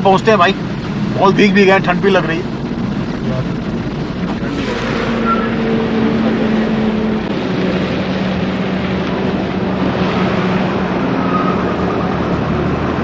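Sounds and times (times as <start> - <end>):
low engine hum: 0.0 - 13.0
tyre and road noise: 0.0 - 13.0.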